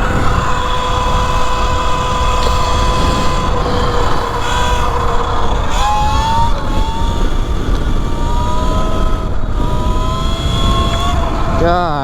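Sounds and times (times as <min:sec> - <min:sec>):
electric motor whining: 0:00.0 - 0:12.0
wind rumble on microphone: 0:00.0 - 0:12.0.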